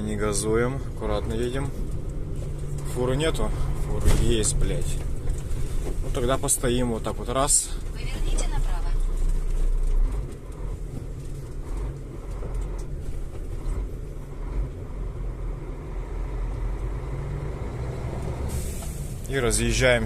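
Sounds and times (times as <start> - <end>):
truck engine running at low revs: 0.0 - 20.0.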